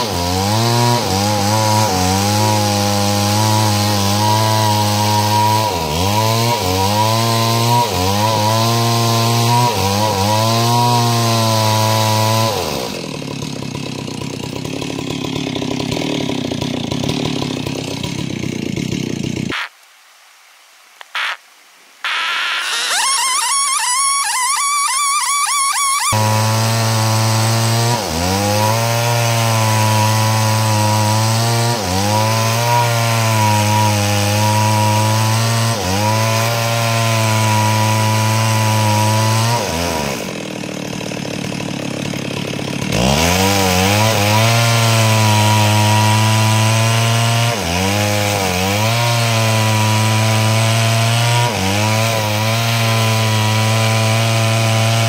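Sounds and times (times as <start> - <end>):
chainsaw cutting a log: 0.0 - 19.7, 22.0 - 55.0.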